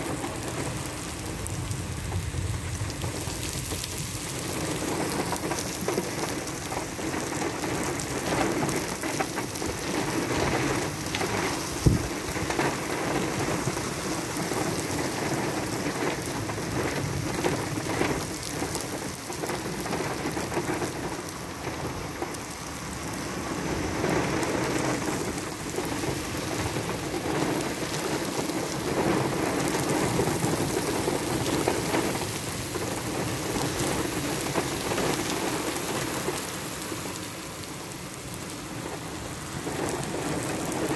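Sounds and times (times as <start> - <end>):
heavy rain on a vehicle: 0.0 - 40.9.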